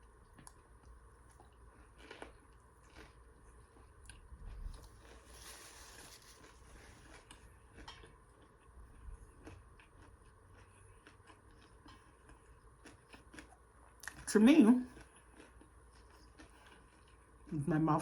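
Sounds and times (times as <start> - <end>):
person chewing: 0.2 - 14.2, 14.9 - 17.5.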